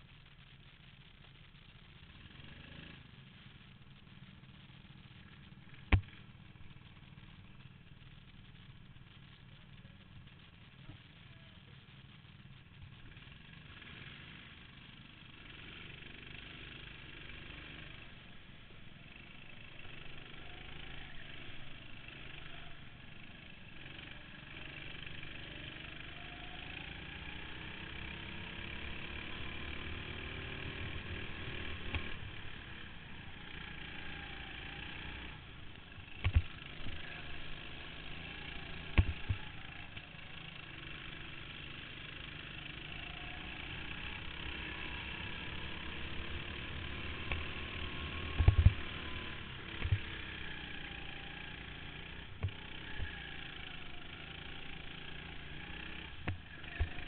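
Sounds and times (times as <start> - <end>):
go-kart engines: 0.0 - 57.0.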